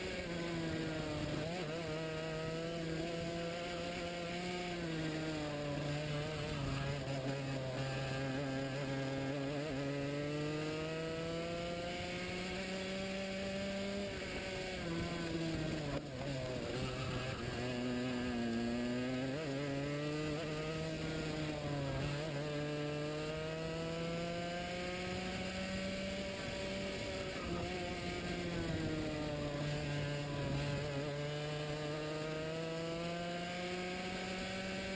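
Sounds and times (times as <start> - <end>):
racing kart engine revving: 0.0 - 34.9.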